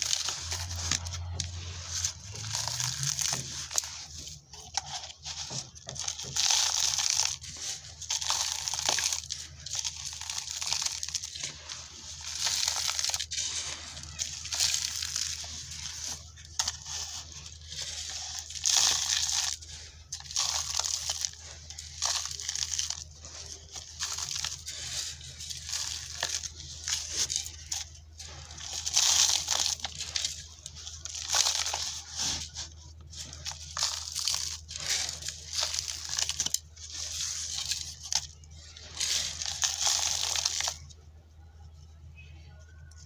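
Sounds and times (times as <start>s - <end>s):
dry dirt crumbling crunchily: 0.0s - 41.2s.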